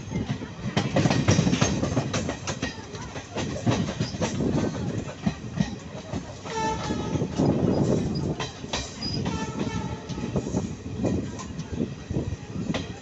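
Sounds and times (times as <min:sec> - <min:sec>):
train wheels clacking over rail joints: 0:00.0 - 0:11.8
train rushing noise: 0:00.0 - 0:13.0.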